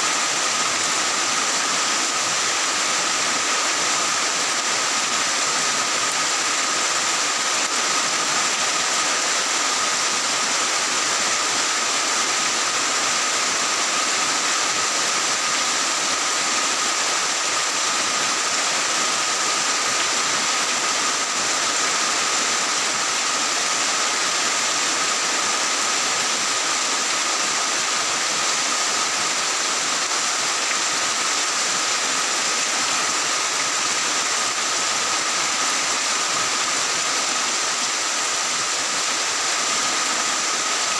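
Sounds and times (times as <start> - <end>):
heavy rain on tiled roofs: 0.0 - 40.9.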